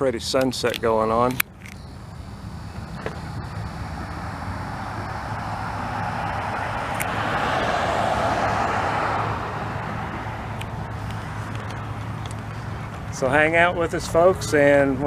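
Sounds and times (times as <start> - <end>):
steady low hum: 0.0 - 15.0
vehicle passing by: 1.9 - 15.0.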